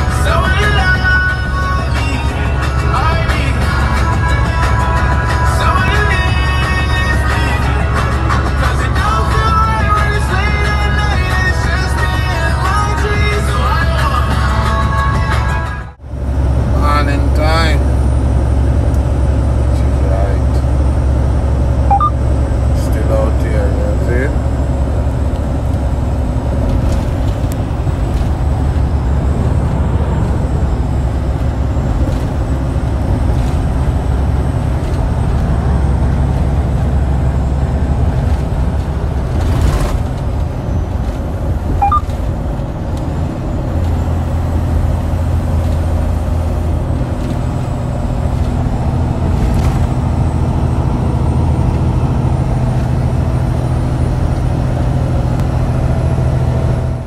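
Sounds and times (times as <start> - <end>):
diesel truck engine drone: 0.0 - 57.0
road noise: 0.0 - 57.0.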